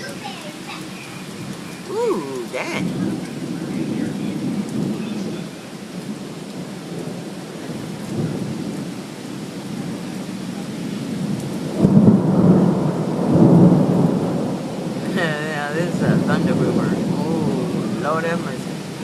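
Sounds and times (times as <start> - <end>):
steady rain: 0.0 - 19.0
rumbling thunder: 2.8 - 19.0.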